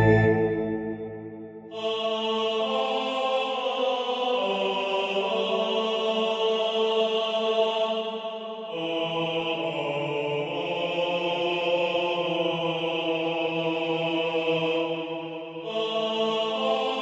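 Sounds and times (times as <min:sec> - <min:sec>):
slow chant-like chords: 0:00.0 - 0:17.0.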